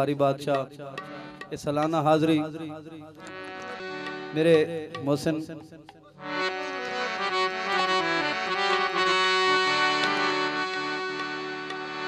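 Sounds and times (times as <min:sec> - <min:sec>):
harmonium chords: 0:00.0 - 0:12.0.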